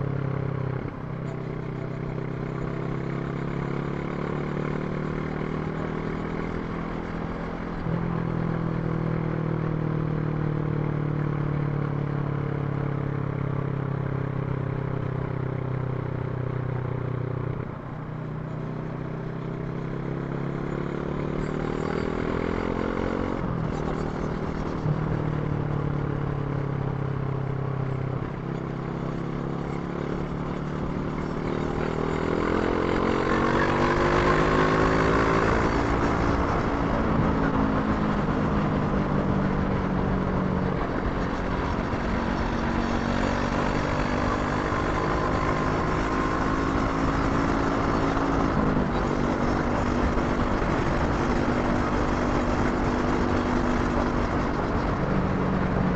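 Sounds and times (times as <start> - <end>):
motorcycle engine shifting gears: 0.0 - 55.9.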